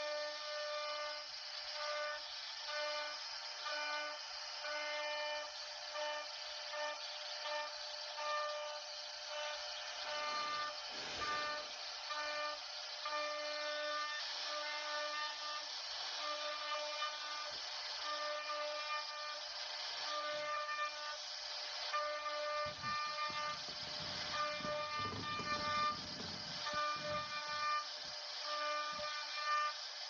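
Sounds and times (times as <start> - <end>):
machine motors whining: 0.0 - 30.0
router cutting wood hiss: 0.0 - 30.0.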